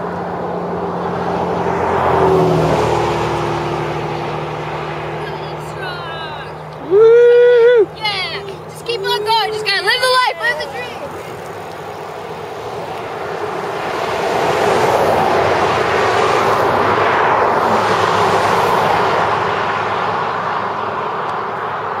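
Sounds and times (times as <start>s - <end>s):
car passing with tyre noise: 0.0s - 22.0s.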